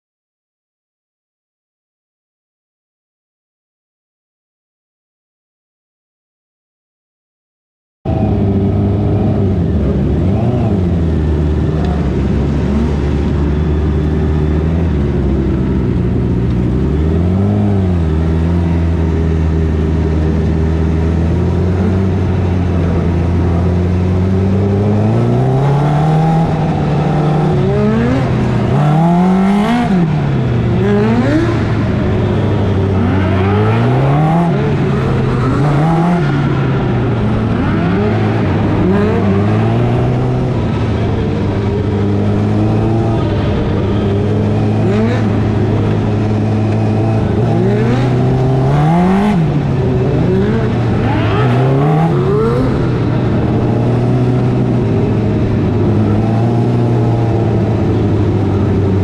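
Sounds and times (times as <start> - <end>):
race car engine revving: 8.1 - 59.0.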